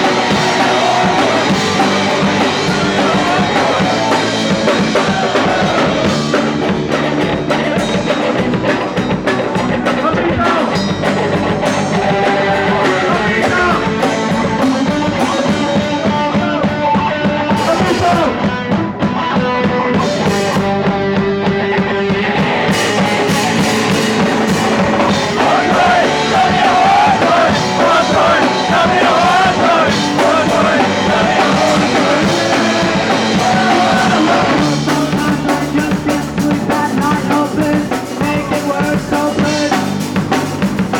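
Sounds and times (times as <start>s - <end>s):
person singing: 0.0s - 6.6s, 11.6s - 22.4s, 23.0s - 40.4s
punk rock band playing live: 0.0s - 40.9s.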